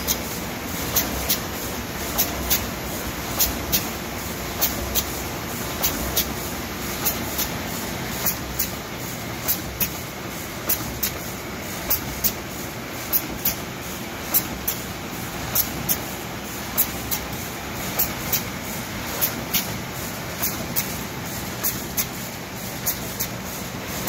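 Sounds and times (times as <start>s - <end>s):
sharp machine clicks: 0.0s - 8.8s, 9.4s - 13.6s, 14.2s - 24.0s.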